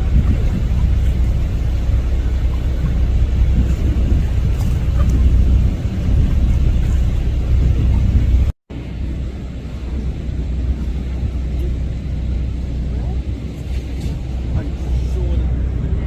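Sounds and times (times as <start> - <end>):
boat engine rumble: 0.0 - 16.0
wind: 0.0 - 16.0.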